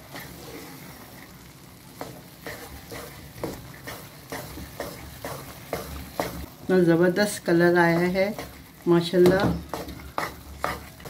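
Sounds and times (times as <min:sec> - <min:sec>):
spatula scraping pan: 0:00.0 - 0:01.2, 0:02.0 - 0:06.5, 0:07.5 - 0:11.0
ghee sizzling: 0:00.0 - 0:11.0.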